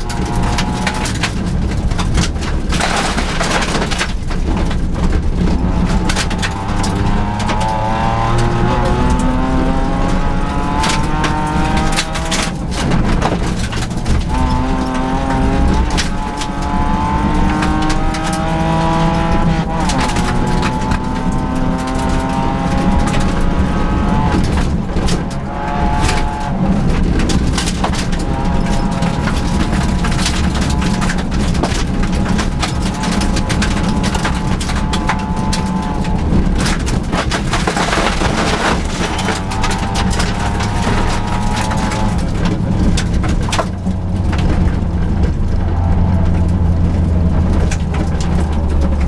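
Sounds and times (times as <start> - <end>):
gravel striking car: 0.0 - 49.0
rally car engine revving: 0.0 - 49.0.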